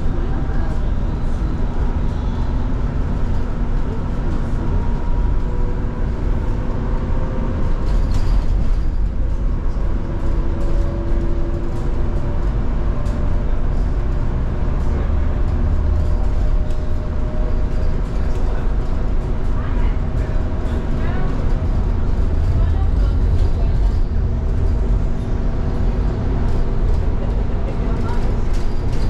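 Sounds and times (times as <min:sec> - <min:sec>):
bus low rumble: 0:00.0 - 0:29.0.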